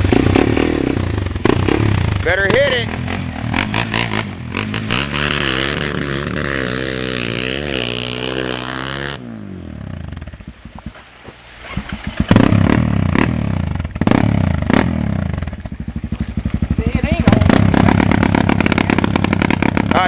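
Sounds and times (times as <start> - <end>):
quad engine revving: 0.0 - 10.5, 11.6 - 20.0.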